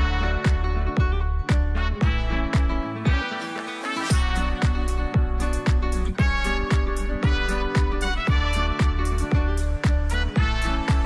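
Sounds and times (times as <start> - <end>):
music with kick-drum beat: 0.0 - 11.0.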